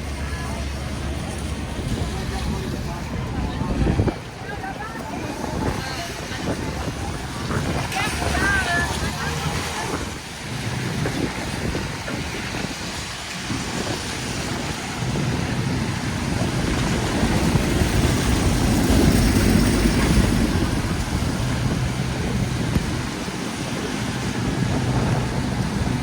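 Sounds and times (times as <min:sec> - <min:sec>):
city street traffic rumble: 0:00.0 - 0:26.0.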